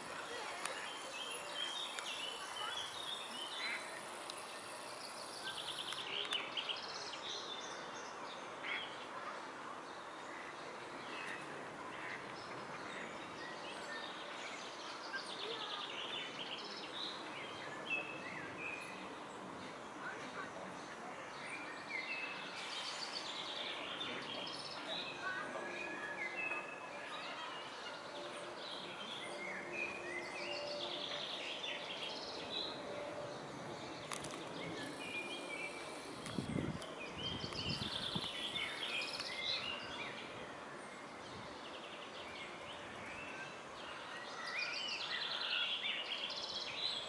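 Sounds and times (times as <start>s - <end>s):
outdoor background noise: 0.0s - 47.0s
songbirds chirping: 0.0s - 47.0s.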